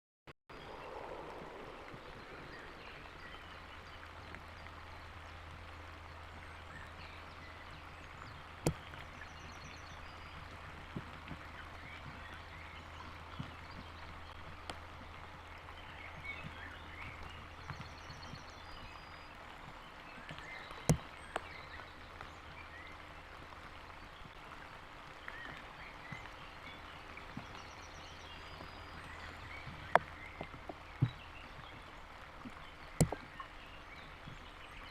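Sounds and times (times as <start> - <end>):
raindrops tapping: 0.5 - 34.9
steady rain hiss: 0.5 - 34.9.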